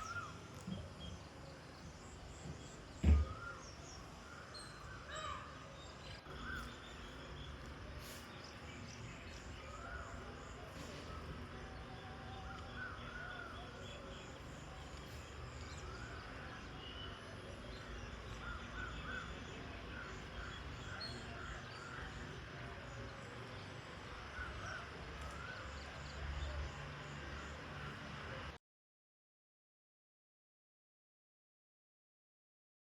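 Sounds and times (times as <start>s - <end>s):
birds calling: 0.0s - 28.5s.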